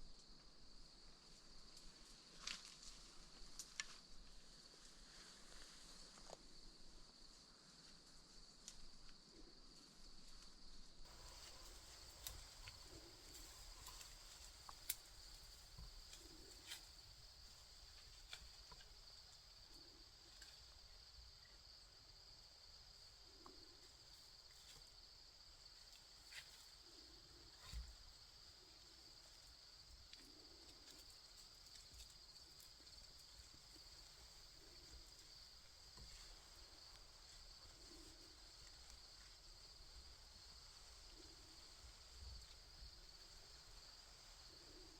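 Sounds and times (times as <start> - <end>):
insects chorus: 0.0 - 44.9.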